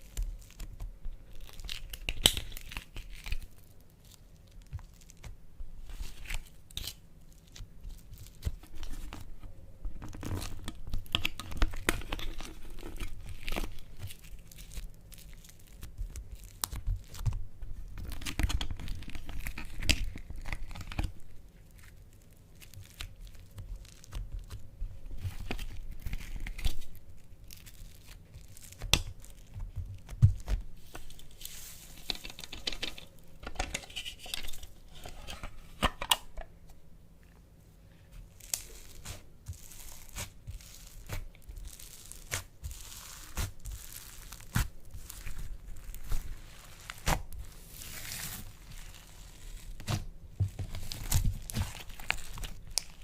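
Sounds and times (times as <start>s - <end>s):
slime crackling and popping: 0.0s - 5.4s, 10.2s - 32.9s, 38.3s - 53.0s.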